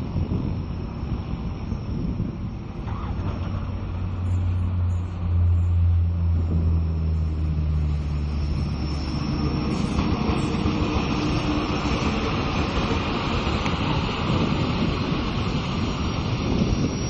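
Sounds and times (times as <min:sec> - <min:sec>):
low train engine drone: 0:00.0 - 0:17.0
train cars rumbling by: 0:00.0 - 0:17.0.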